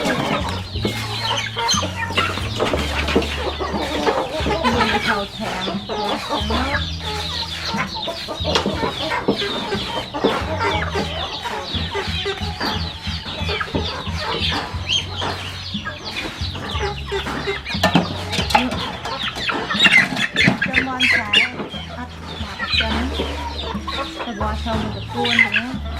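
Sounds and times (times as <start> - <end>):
chickens clucking: 0.0 - 25.9
high peeping calls: 0.0 - 25.9.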